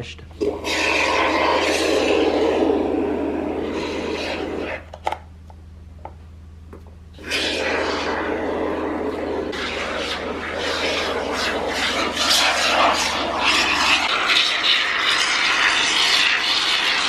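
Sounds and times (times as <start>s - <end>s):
spray foam sputtering hiss: 0.4s - 4.9s, 7.2s - 17.0s.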